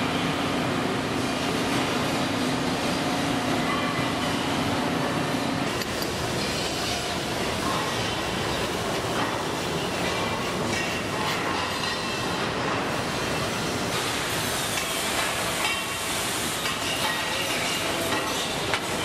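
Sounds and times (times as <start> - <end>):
factory machinery din: 0.0 - 19.0.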